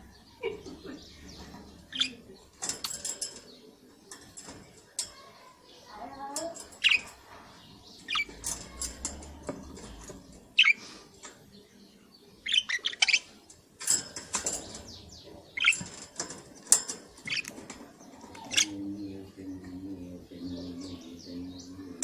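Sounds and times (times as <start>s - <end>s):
budgerigars chirping and clicking: 0.0s - 22.0s.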